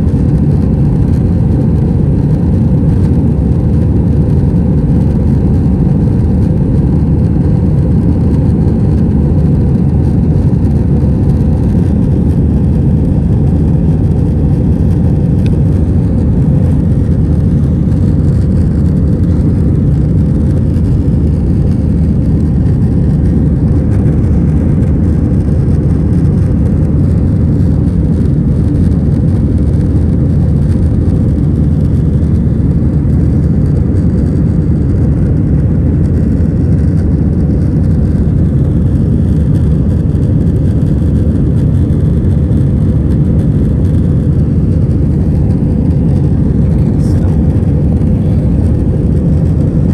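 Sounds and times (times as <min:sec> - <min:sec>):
jet engines and airflow rumble: 0:00.0 - 0:49.9.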